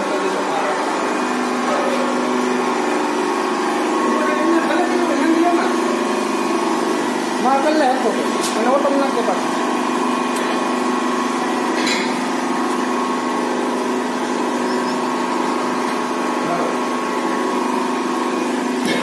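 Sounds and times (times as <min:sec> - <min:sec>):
hydraulic pump humming and whining: 0:00.0 - 0:19.0.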